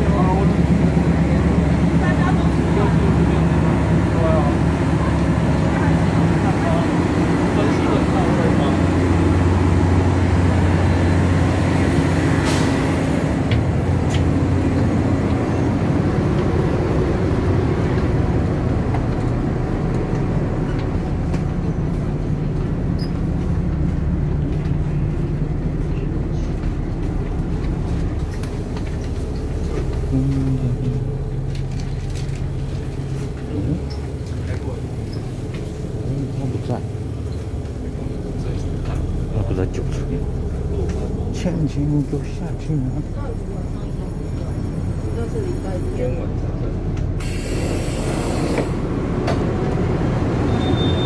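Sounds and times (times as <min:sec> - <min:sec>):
diesel train engines idling: 0:00.0 - 0:51.0.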